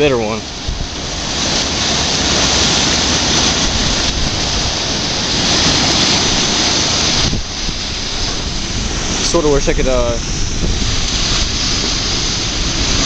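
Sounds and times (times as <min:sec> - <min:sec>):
whirlpool water rushing: 0:00.0 - 0:13.0.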